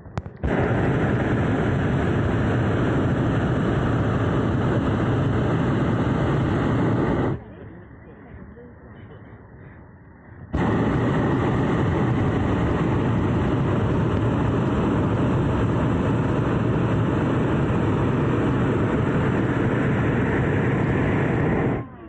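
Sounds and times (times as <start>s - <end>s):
propane burner roaring: 0.2s - 7.4s, 10.5s - 21.9s.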